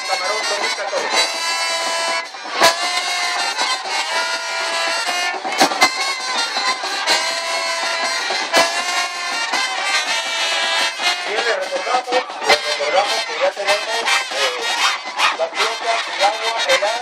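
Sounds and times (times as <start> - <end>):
trumpets holding long notes: 0.0 - 17.0.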